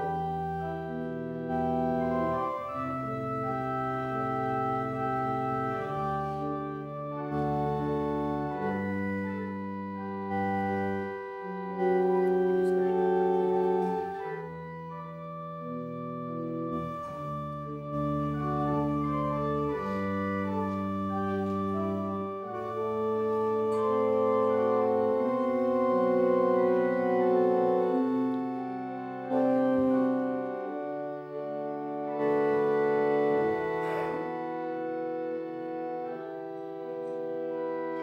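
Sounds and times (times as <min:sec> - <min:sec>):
organ playing slow chords: 0:00.0 - 0:38.0.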